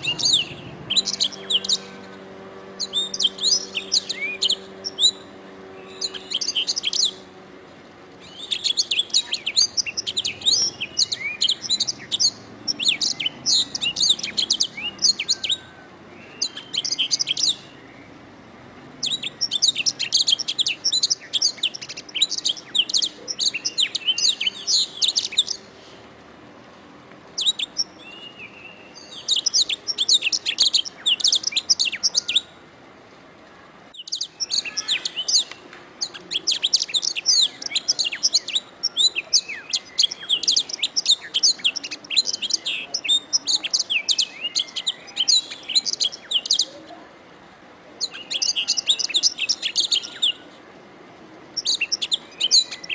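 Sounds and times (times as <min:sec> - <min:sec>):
canary singing trills: 0:00.0 - 0:26.0, 0:27.4 - 0:32.6, 0:33.9 - 0:47.0, 0:48.0 - 0:50.6, 0:51.3 - 0:52.9.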